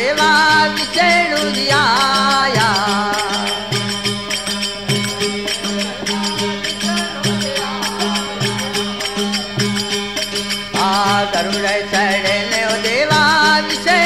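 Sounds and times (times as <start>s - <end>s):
jingling small percussion: 0.0s - 14.0s
string drone and melody: 0.0s - 14.0s.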